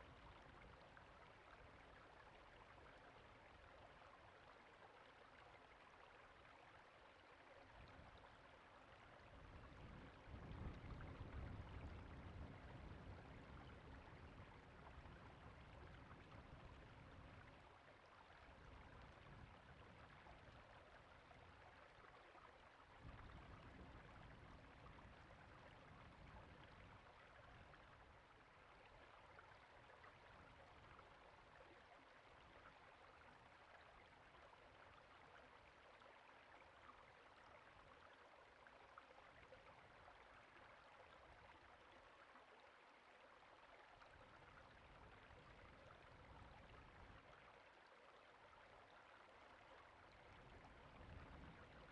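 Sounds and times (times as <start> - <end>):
creek water flowing over rocks: 0.0 - 51.9.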